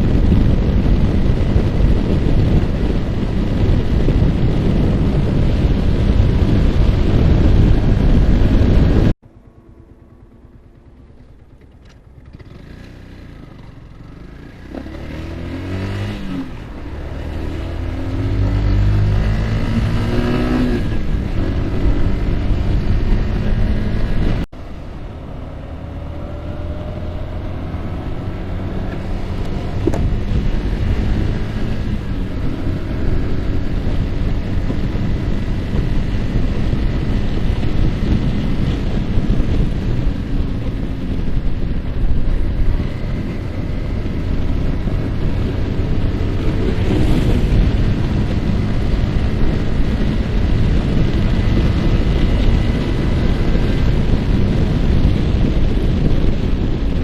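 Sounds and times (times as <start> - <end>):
wind rushing over microphone: 0.0 - 9.3, 12.4 - 57.0
motorcycle engine accelerating: 0.0 - 57.0.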